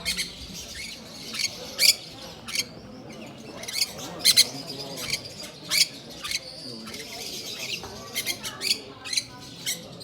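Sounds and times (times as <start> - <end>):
birds giving high-pitched calls: 0.0 - 10.0.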